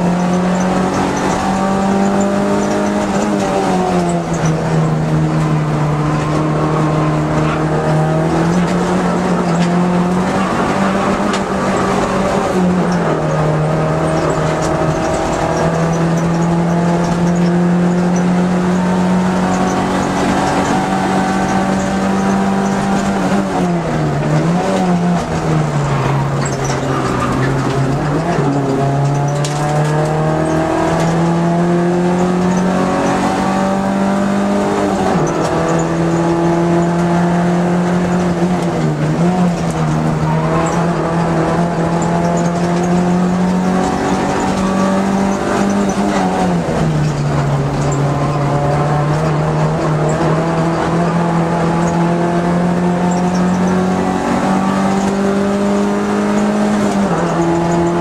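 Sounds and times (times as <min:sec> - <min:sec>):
race car engine from cabin: 0:00.0 - 0:58.0.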